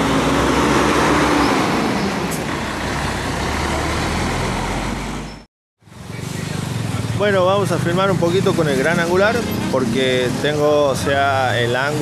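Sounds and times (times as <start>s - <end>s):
heavy vehicle engine running: 0.0s - 9.8s
street traffic: 0.0s - 12.0s.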